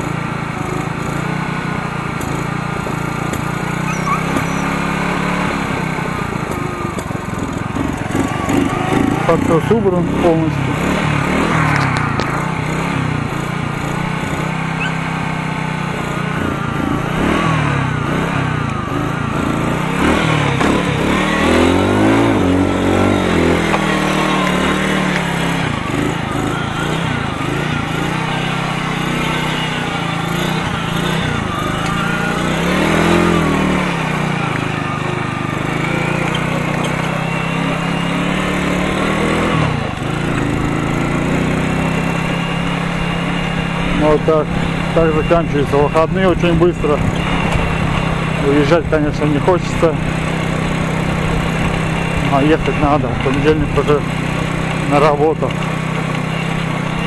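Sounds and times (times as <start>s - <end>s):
moped engine revving: 0.0s - 57.0s.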